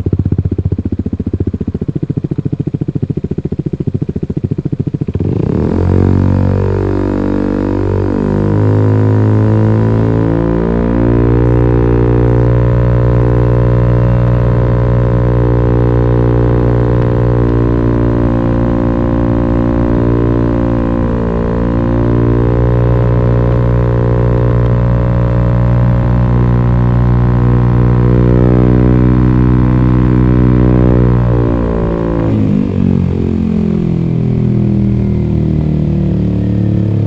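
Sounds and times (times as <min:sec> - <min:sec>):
scooter engine droning: 0:00.0 - 0:37.0.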